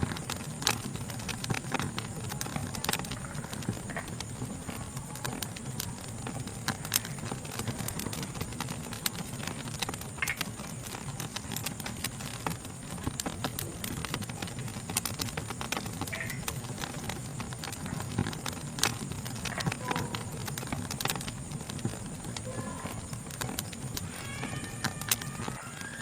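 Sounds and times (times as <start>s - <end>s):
night insects chirping: 0.0s - 26.0s
wood fire crackling and popping: 0.0s - 26.0s.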